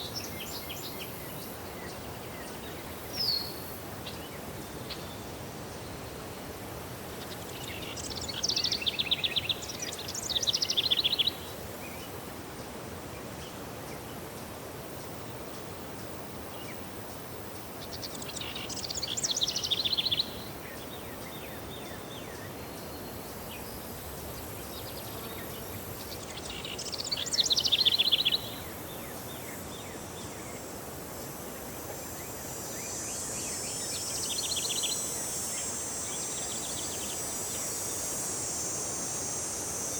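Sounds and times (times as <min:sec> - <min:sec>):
songbird singing rapid trills: 0:00.0 - 0:06.2, 0:07.1 - 0:12.2, 0:17.6 - 0:30.7, 0:31.5 - 0:39.9
high hiss: 0:00.0 - 0:39.9
outdoor background hiss: 0:00.0 - 0:39.9.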